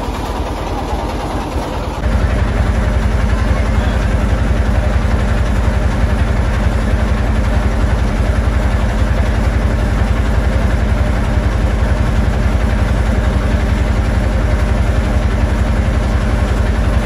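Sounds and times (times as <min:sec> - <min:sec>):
motorboat engine throbbing: 0:00.0 - 0:17.0.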